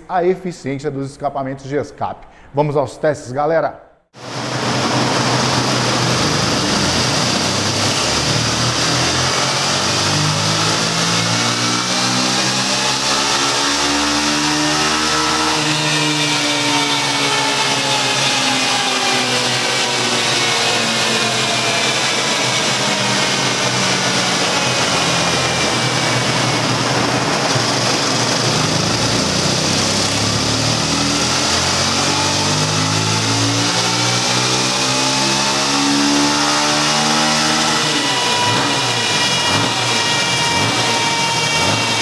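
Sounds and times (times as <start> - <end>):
motorcycle engine running loud: 4.2 - 42.0.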